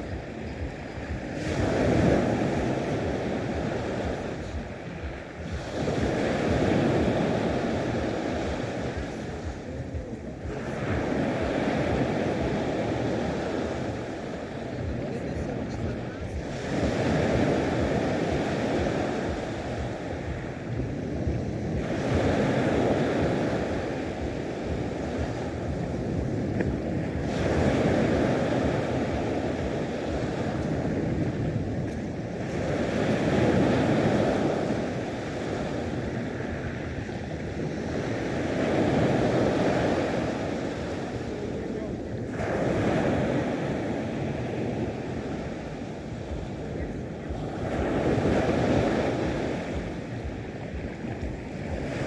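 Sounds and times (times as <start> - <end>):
sea waves breaking: 0.0 - 52.0
wind buffeting microphone: 0.0 - 52.0.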